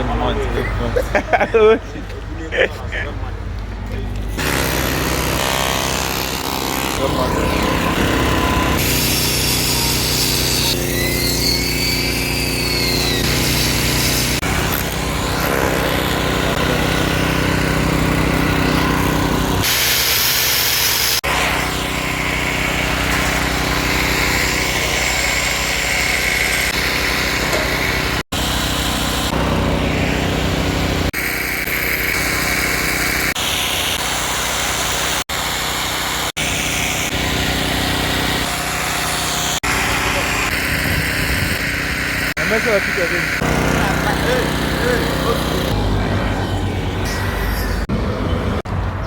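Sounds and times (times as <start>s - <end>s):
road noise: 0.0s - 32.7s, 36.2s - 49.0s
small engine running: 4.2s - 48.6s.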